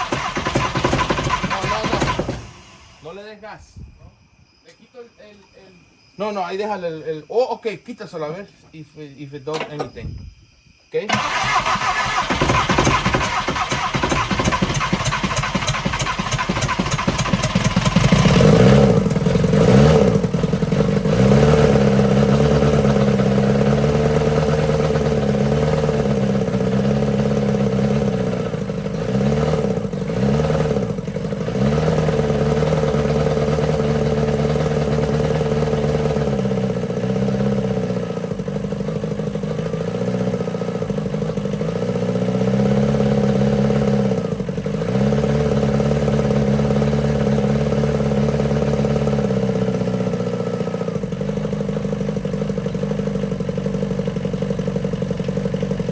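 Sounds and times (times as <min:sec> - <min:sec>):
diesel engine cranking and running: 0:00.0 - 0:03.0, 0:11.1 - 0:55.9.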